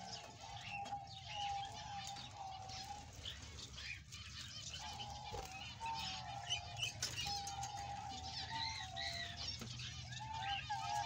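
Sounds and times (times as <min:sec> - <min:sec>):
budgerigars chirping and warbling: 0:00.0 - 0:11.0.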